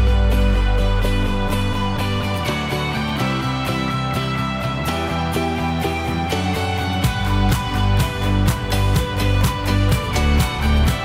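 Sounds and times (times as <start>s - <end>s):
background music with strong bass: 0.0s - 11.0s.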